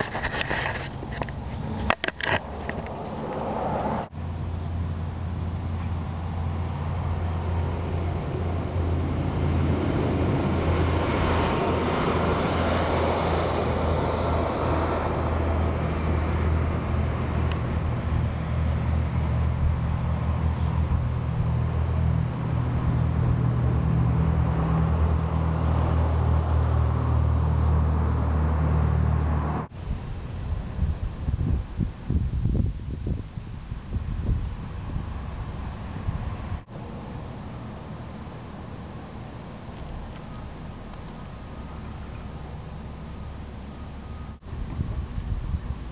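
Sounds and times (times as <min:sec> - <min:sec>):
car engine and road drone: 0:00.0 - 0:45.9.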